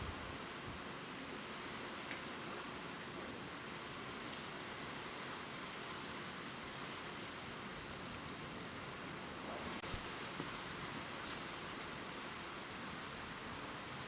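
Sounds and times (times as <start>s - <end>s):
gentle rain on leaves: 0.1s - 14.0s.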